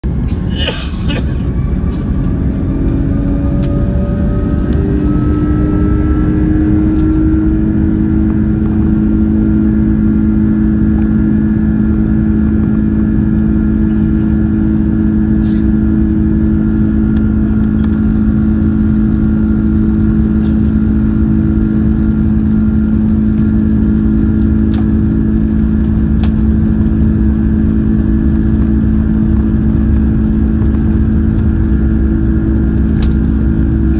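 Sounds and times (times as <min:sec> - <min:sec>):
jet engines spooling up: 0:00.1 - 0:33.9.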